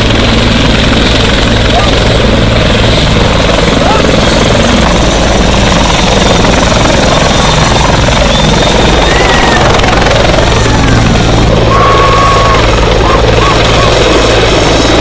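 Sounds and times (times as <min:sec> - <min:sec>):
helicopter rotor chop: 0:00.0 - 0:15.0
turbine whine: 0:00.0 - 0:15.0.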